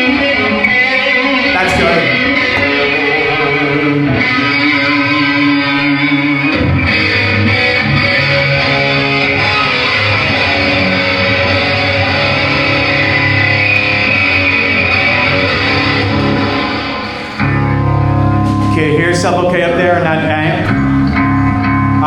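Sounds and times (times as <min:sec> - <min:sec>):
distorted electric guitar: 0:00.8 - 0:22.0.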